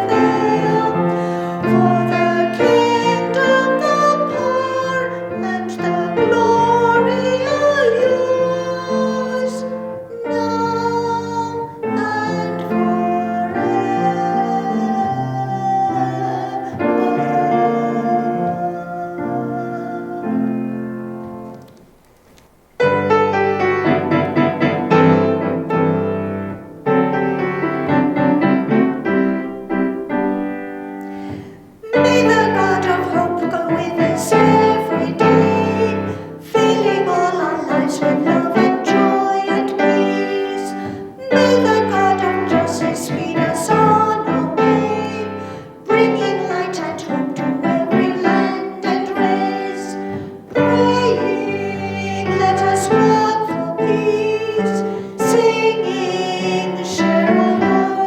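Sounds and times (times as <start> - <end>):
person singing: 0.0 - 21.0, 31.1 - 58.0
piano accompaniment: 0.0 - 58.0.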